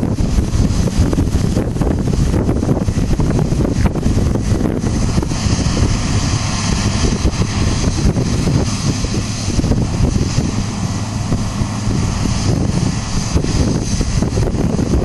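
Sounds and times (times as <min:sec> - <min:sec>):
heavy farm machinery rumbling: 0:00.0 - 0:15.0
wind buffeting microphone: 0:00.0 - 0:15.0.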